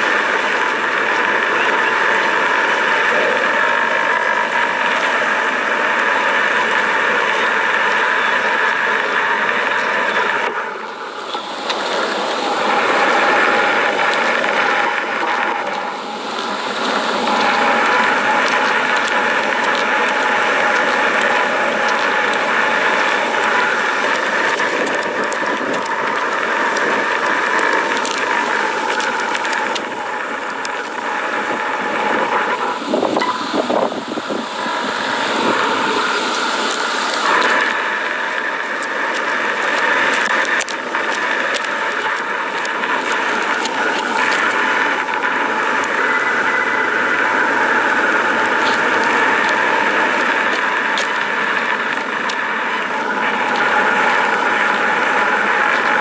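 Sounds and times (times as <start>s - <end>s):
lava crackles and pops: 0.0s - 56.0s
lava rushing hiss: 0.0s - 56.0s.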